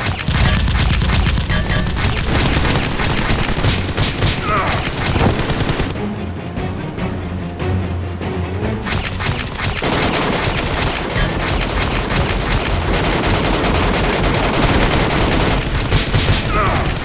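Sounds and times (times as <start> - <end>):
rapid automatic gunfire: 0.0 - 6.0, 8.9 - 17.0.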